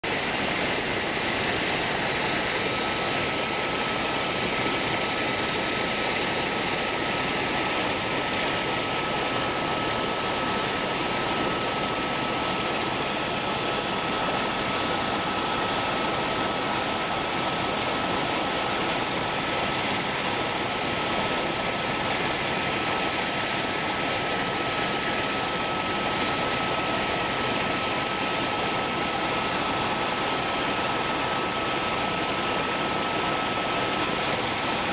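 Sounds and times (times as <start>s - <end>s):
aircraft cabin engine noise: 0.0s - 34.9s
thin steady whine: 0.0s - 34.9s.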